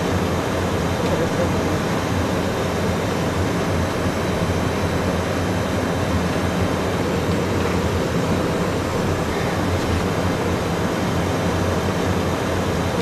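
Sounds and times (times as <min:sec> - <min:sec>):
cockpit airflow rush: 0:00.4 - 0:12.8.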